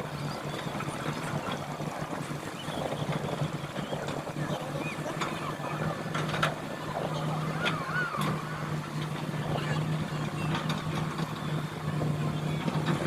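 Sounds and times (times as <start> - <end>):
engine running low hum: 0.0 - 13.0
faint voices: 0.0 - 13.0.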